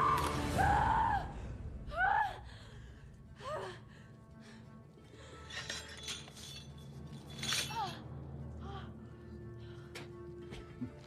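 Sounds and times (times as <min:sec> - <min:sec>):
low film score: 0:00.0 - 0:11.0.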